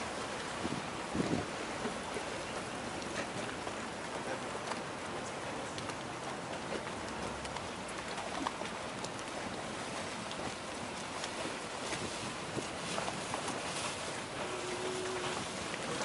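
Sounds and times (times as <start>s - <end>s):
small water splashes: 0.0s - 16.0s
water rushing along hull: 0.0s - 16.0s.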